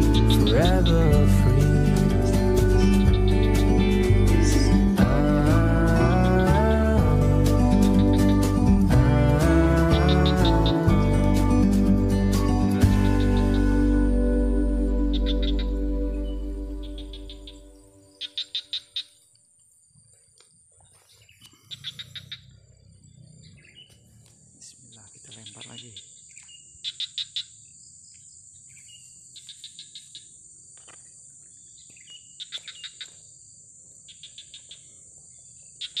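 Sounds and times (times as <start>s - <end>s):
insect chirps: 0.0s - 36.0s
insect high-pitched drone: 0.0s - 36.0s.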